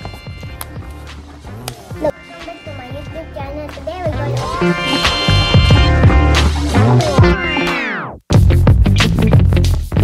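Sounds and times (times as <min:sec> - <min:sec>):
upbeat music with bass: 0:00.0 - 0:10.0.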